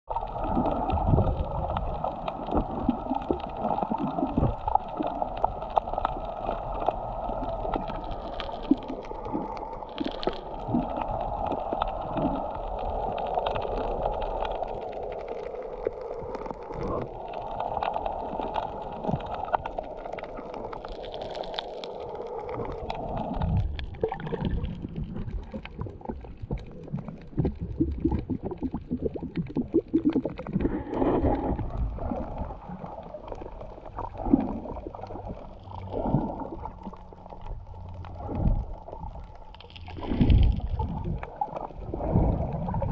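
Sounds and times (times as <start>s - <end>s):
muffled underwater hiss: 0.1s - 42.9s.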